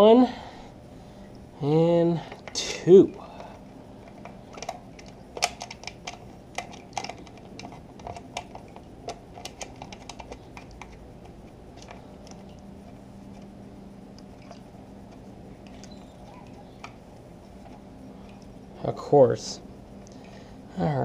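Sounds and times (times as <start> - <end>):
faint steady low hum: 0.0 - 21.0.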